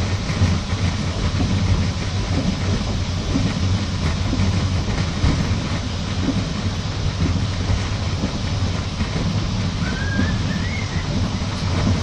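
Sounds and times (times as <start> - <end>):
train carriage rumbling: 0.0 - 12.0
wheels clacking over rail joints: 0.0 - 12.0.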